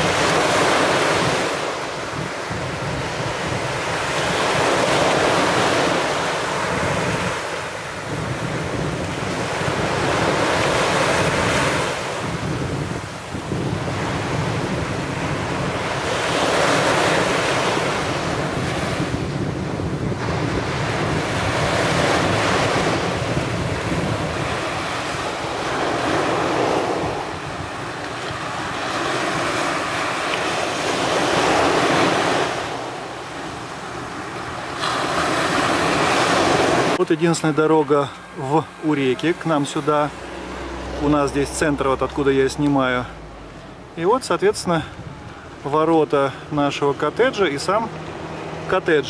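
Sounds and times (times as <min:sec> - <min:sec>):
waves breaking on shore: 0:00.0 - 0:49.0.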